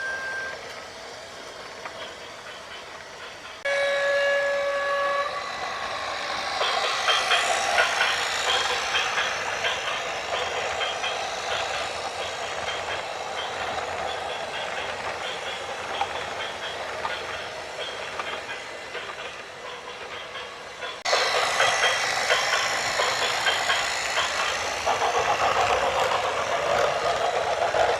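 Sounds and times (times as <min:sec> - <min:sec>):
train rattling past: 0:00.0 - 0:27.9.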